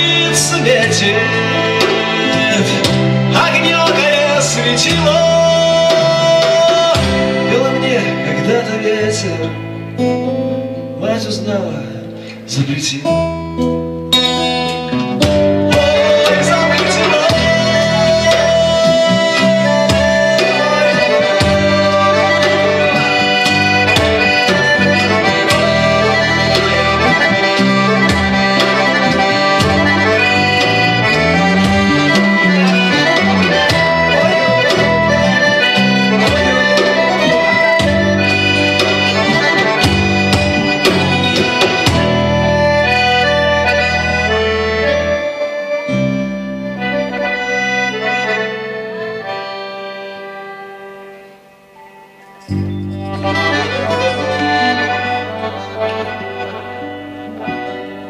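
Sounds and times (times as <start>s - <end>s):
accordion: 0.0s - 58.0s
folk band playing: 0.0s - 58.0s
sustained bass chords: 0.0s - 58.0s.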